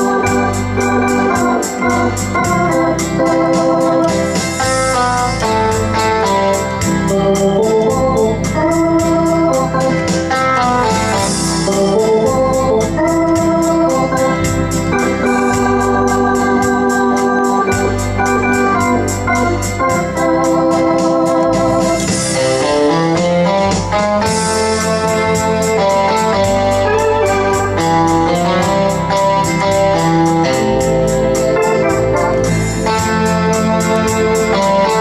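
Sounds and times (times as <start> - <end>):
organ automatic accompaniment: 0.0 - 35.0
organ playing rock chords: 0.0 - 35.0
steady drum beat: 0.0 - 35.0.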